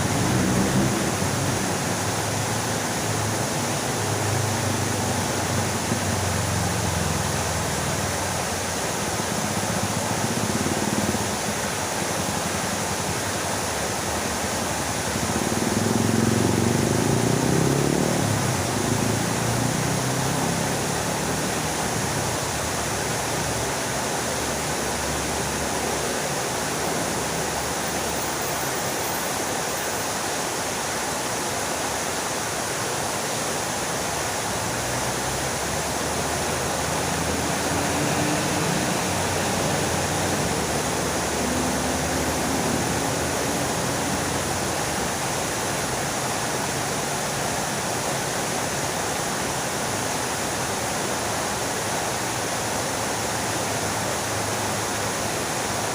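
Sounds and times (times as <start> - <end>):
fountain water splashing: 0.0 - 55.9.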